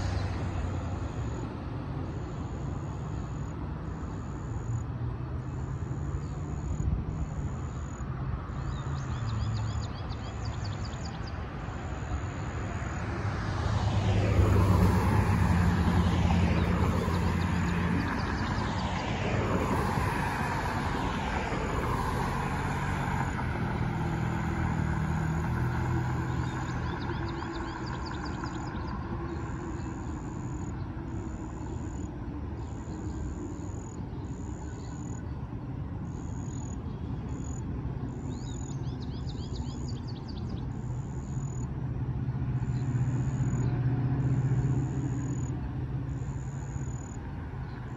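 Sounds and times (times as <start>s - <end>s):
cars driving past: 0.0s - 47.9s
insects chirping: 0.0s - 47.9s.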